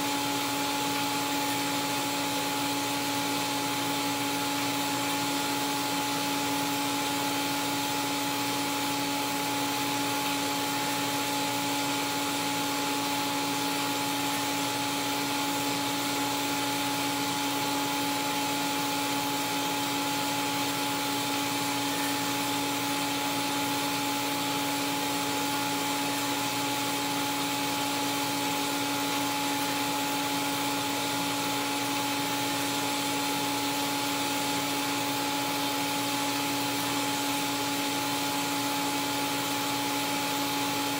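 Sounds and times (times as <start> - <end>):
welding arc hissing and humming: 0.0 - 40.9.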